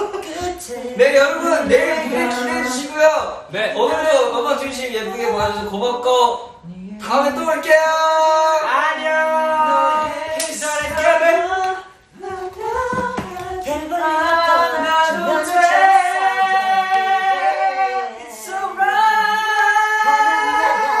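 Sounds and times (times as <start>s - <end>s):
voices singing together: 0.0s - 5.8s, 6.6s - 21.0s.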